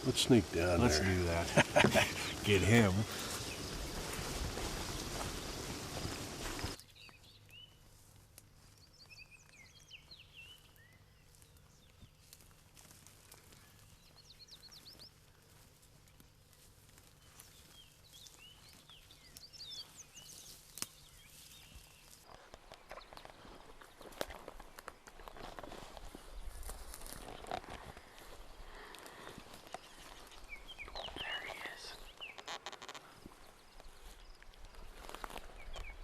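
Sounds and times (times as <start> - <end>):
crunching footsteps: 0.0 - 36.0
songbird chirping: 0.0 - 36.0.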